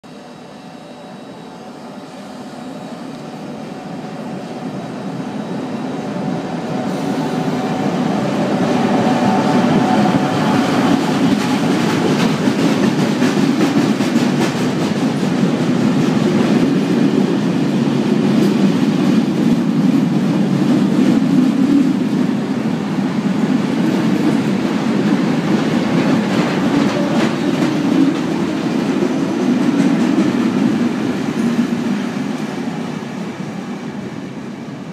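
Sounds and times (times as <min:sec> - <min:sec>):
train rumbling past: 0:00.0 - 0:34.9
train wheels clacking on rails: 0:06.0 - 0:34.2.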